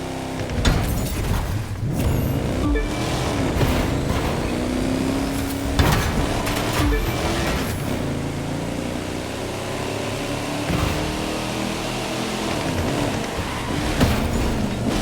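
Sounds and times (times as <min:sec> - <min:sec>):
vehicle engine running: 0:01.8 - 0:15.0.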